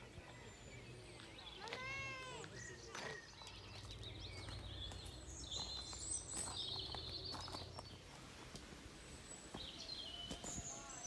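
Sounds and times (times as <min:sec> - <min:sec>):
songbirds chirping and warbling: 0:00.0 - 0:11.0.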